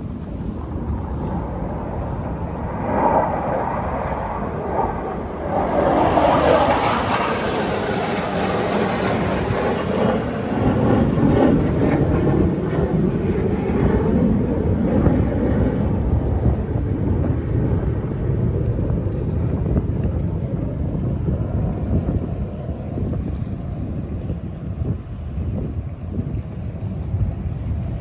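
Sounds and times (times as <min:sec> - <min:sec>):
jet engines roaring past: 0:00.0 - 0:28.0.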